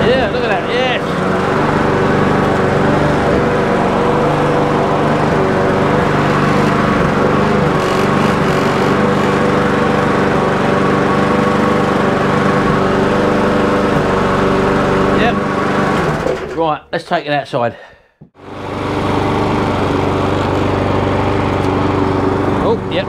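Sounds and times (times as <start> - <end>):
lawn mower engine running: 0.0 - 16.8, 18.4 - 23.0.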